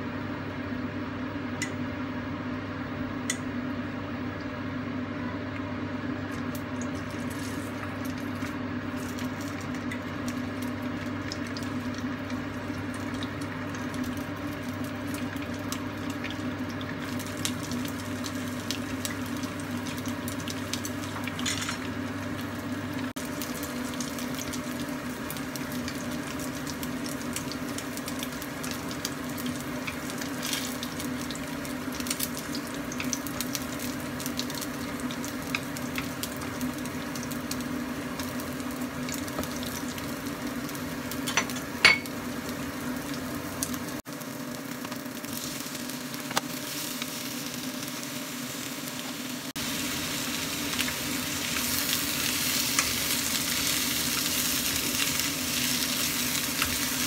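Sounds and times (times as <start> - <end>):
food sizzling in oil: 5.7 - 57.0.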